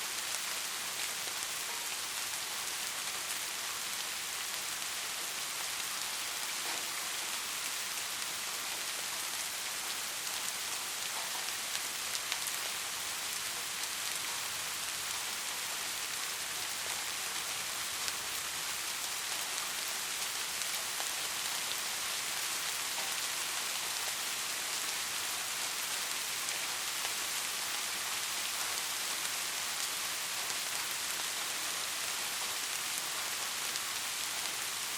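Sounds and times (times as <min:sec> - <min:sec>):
rain drops ticking: 0:00.0 - 0:34.9
steady rain hiss: 0:00.0 - 0:34.9.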